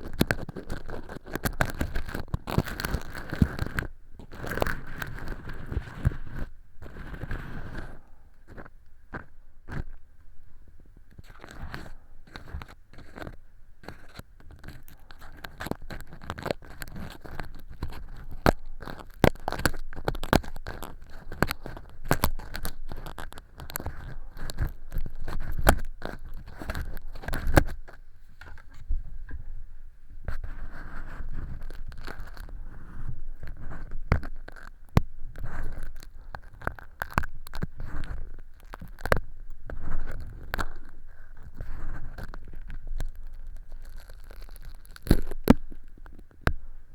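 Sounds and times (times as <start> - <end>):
ear pick scraping: 0.0 - 46.9.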